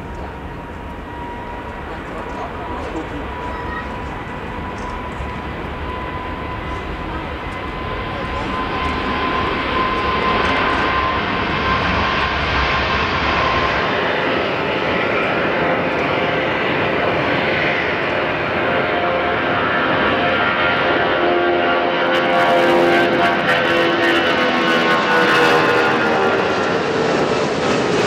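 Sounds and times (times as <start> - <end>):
jet engines roaring at takeoff: 0.0 - 28.0.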